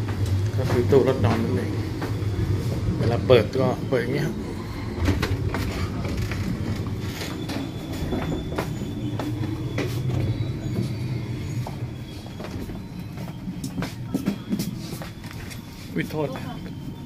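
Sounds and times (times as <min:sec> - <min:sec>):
faint high whine: 0:00.0 - 0:17.0
train rumble: 0:00.0 - 0:17.0.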